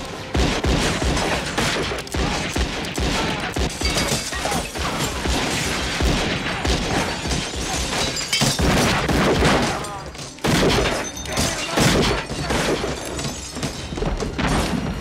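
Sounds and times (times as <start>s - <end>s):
revolver gunshots: 0.0s - 13.2s.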